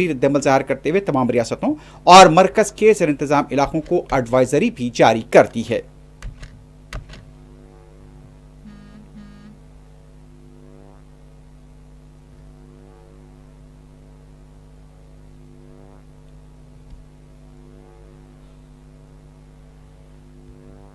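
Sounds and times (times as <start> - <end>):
faint high whine: 0.0 - 20.9
low steady hum: 0.0 - 20.9.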